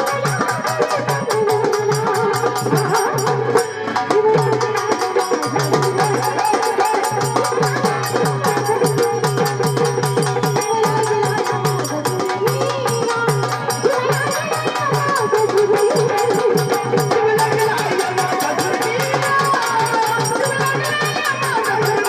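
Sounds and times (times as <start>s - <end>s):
fast folk drum beat: 0.0s - 22.0s.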